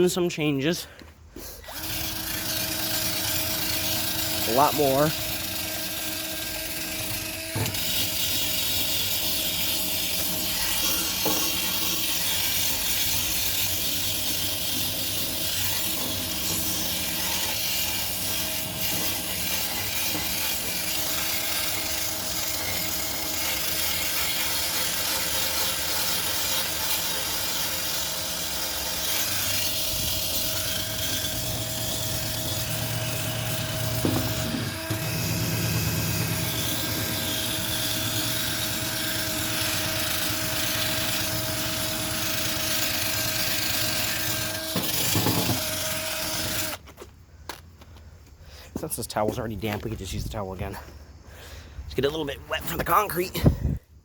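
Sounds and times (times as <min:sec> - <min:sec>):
scrubbing on street light housing: 0:01.7 - 0:51.0.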